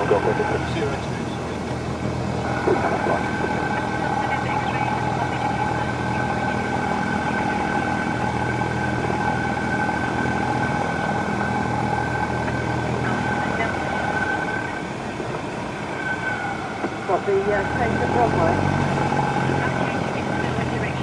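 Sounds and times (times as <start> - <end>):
airplane engine and propeller drone: 0.0 - 21.0.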